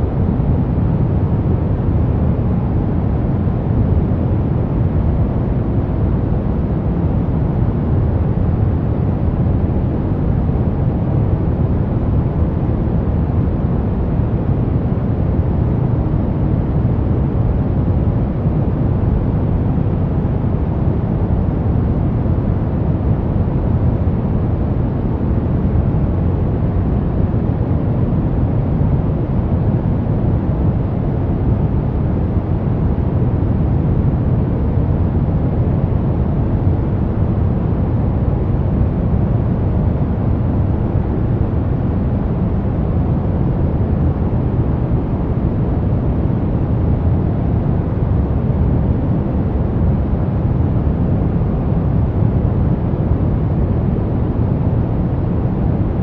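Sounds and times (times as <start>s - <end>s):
brown noise rumbling hiss: 0.0s - 56.0s.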